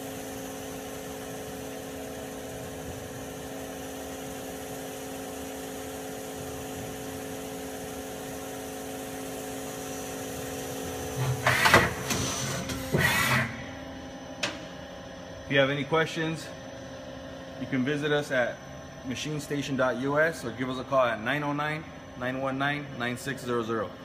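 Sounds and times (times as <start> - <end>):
machine tool humming: 0.0 - 23.0.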